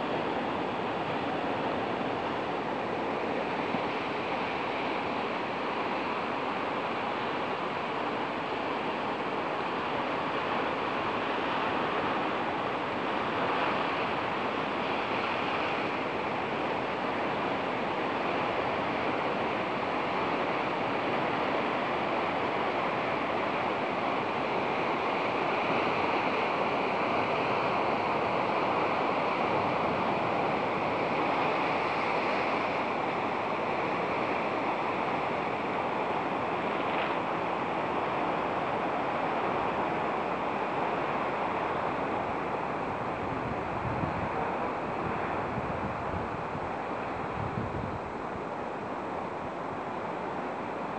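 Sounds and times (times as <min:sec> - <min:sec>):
sea surf rushing: 0:00.0 - 0:50.9.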